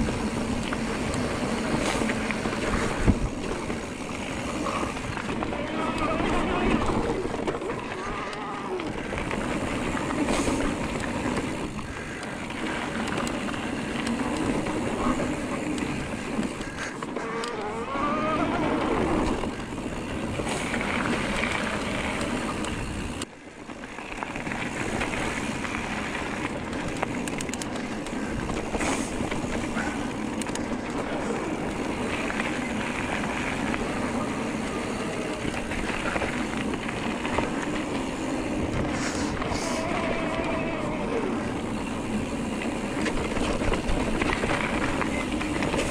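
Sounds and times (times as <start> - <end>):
bike riding noise: 0.0 - 45.9.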